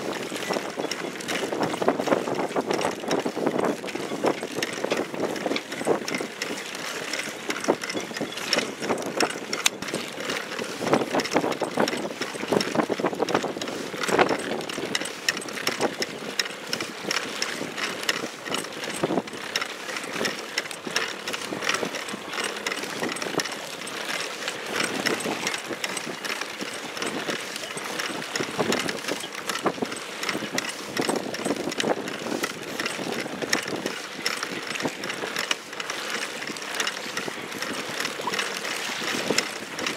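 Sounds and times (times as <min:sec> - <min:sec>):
metal frame clicking and rattling: 0:00.0 - 0:39.9
water splashing against boat hull: 0:00.0 - 0:39.9.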